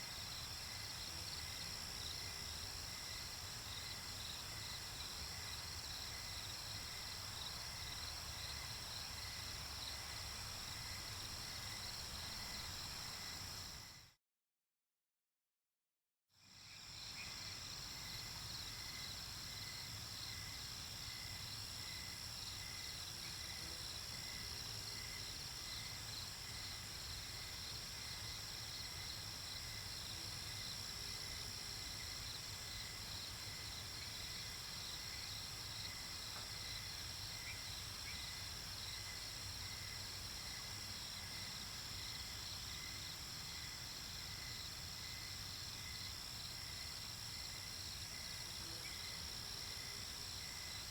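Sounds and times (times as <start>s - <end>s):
crickets chirping: 0.0s - 14.1s, 16.4s - 50.9s.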